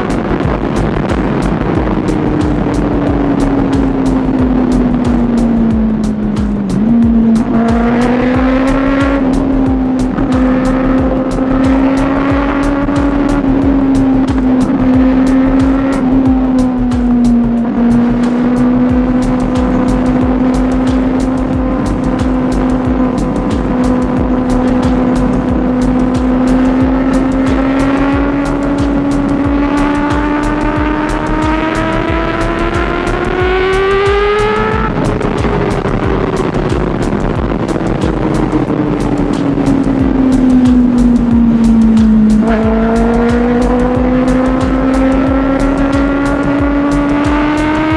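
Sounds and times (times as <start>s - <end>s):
motorcycle engine revving: 0.0s - 47.9s
wind buffeting microphone: 0.0s - 47.9s.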